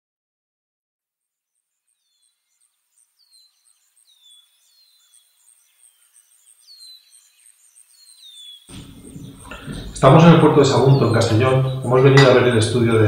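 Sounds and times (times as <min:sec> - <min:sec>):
bird-like chirping: 0:01.9 - 0:13.0.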